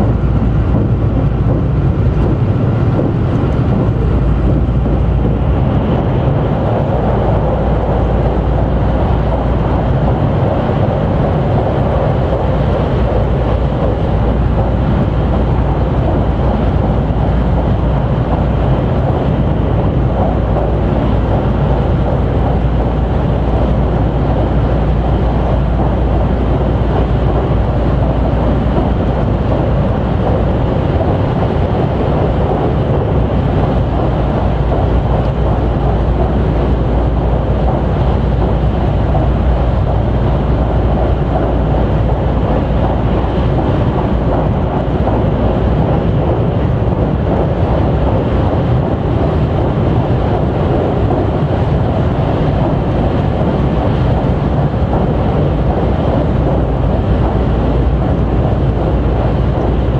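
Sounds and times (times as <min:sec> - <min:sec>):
train wheels and motors rumbling: 0:00.0 - 0:59.9.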